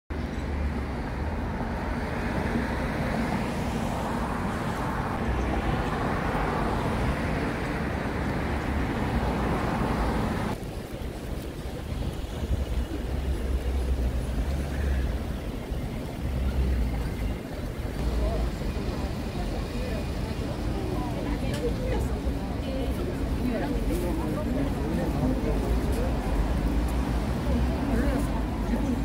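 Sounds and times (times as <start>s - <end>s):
outdoor noise: 0.1s - 29.0s
road traffic rumble: 0.1s - 29.0s.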